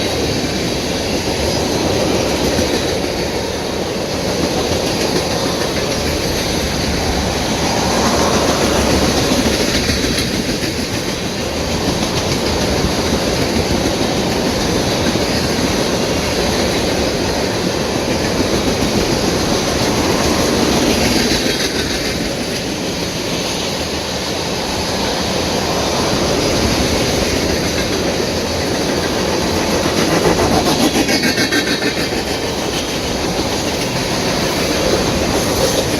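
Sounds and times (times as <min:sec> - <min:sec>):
train wheels on rails: 0:00.0 - 0:35.9.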